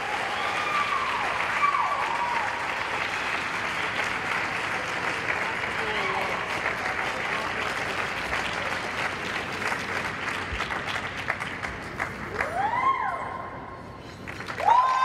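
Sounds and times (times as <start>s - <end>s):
audience applauding: 0.0s - 13.2s, 14.0s - 15.0s.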